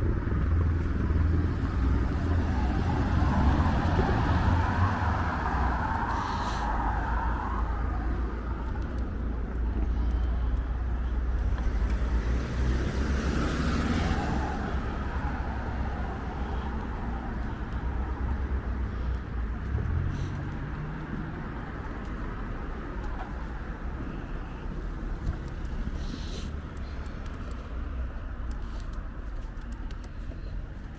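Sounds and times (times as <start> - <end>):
car passing: 0.0 - 28.8
low rumble of traffic: 0.0 - 30.9.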